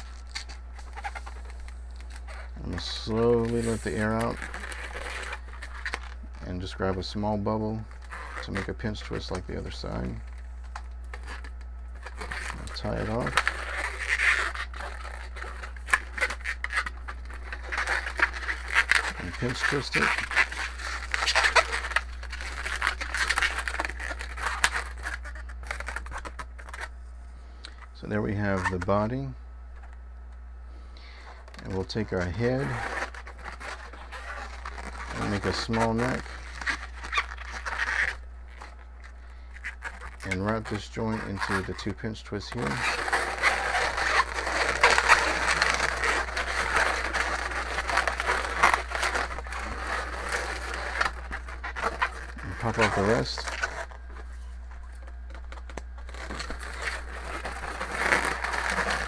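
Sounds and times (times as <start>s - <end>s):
balloons squeaking and rubbing: 0.0s - 26.9s, 27.7s - 30.0s, 31.0s - 59.0s
steady low hum: 0.0s - 59.0s.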